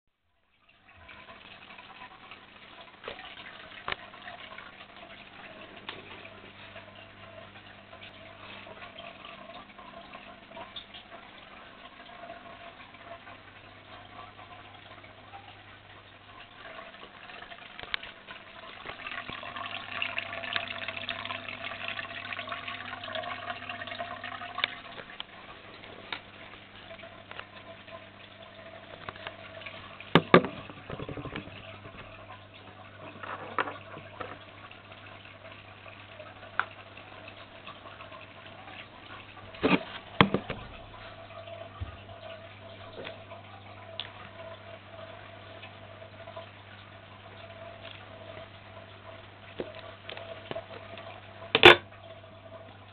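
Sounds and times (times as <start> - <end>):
low electrical hum: 0.2 - 52.9
water trickling in filter: 0.2 - 52.9.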